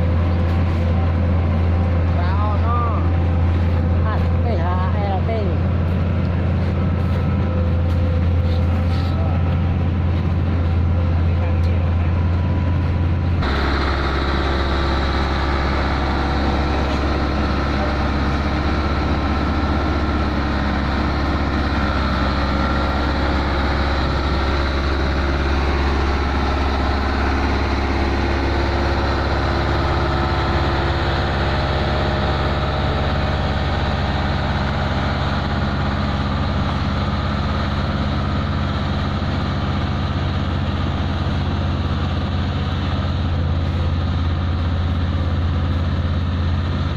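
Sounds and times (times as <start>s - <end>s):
heavy diesel engine droning: 0.0s - 46.9s.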